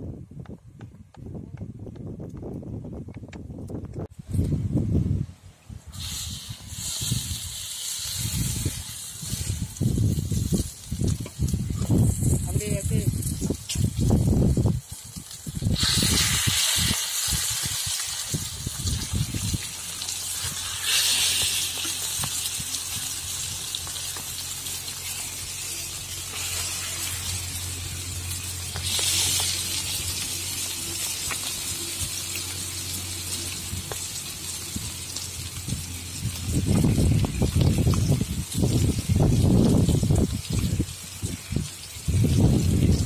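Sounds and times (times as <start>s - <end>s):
fish sizzling in oil: 5.9s - 43.0s.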